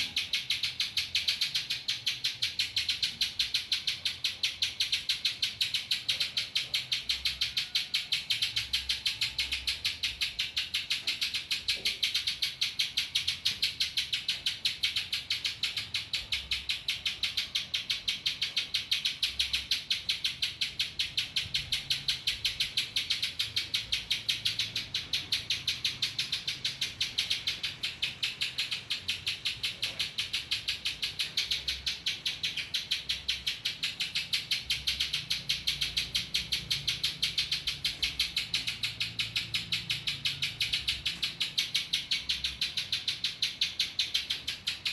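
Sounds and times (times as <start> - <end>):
bird singing rapid high notes: 0.0 - 44.9.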